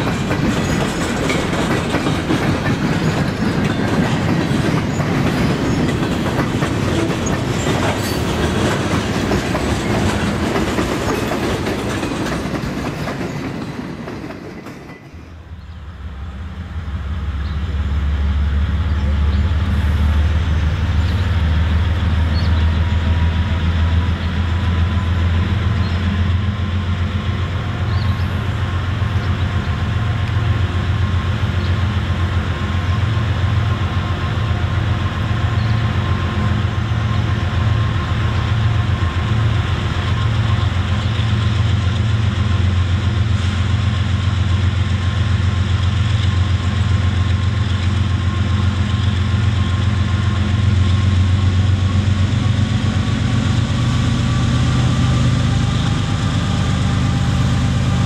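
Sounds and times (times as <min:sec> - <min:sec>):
freight cars rolling on rails: 0:00.0 - 0:16.2, 0:16.9 - 0:58.0
diesel locomotives rumbling: 0:00.0 - 0:58.0.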